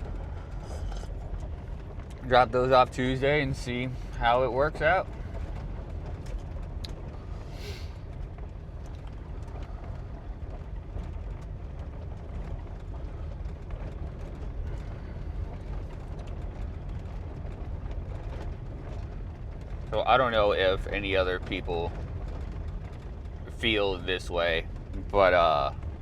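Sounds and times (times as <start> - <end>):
faint ticks and rattles: 0.0 - 26.0
road rumble inside vehicle: 0.0 - 26.0.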